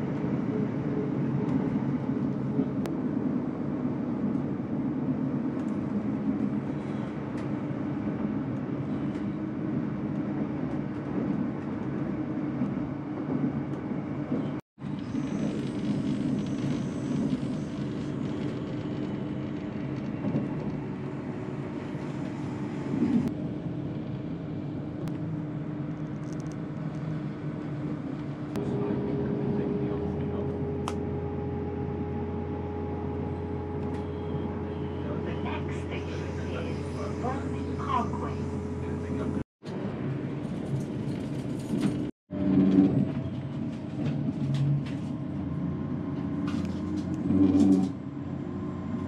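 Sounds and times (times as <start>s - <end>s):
train running rumble: 0.0s - 49.0s.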